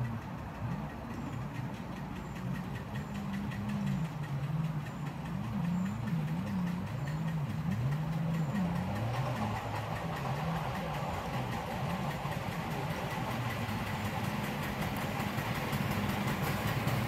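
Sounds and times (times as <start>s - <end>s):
miniature train engine running: 0.0s - 17.0s.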